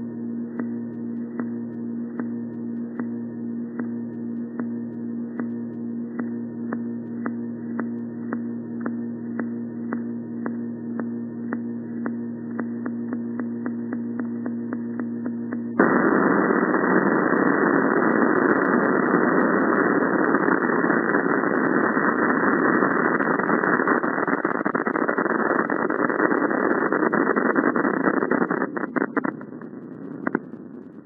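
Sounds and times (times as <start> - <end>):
harsh distorted static: 3.8 - 31.0.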